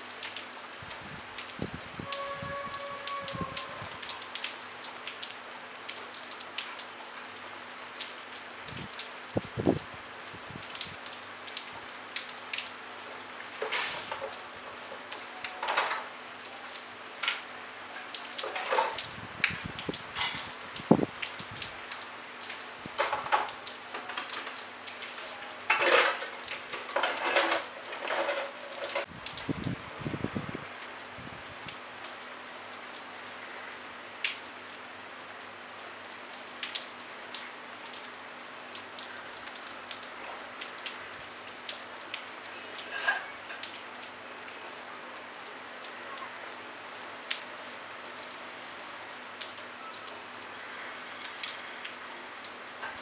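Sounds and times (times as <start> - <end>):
light rain hissing: 0.0 - 53.0
raindrops striking: 0.0 - 53.0
clusters of drips: 0.1 - 29.8, 31.6 - 53.0.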